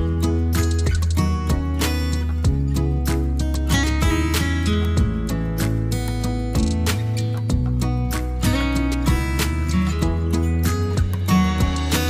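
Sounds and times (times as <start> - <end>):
acoustic guitar strumming: 0.0 - 12.0
steady bass line: 0.0 - 12.0.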